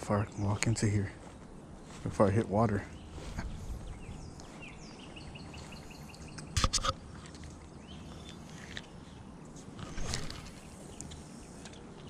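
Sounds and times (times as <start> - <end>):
bird chirping: 0.2 - 7.0, 7.6 - 12.0.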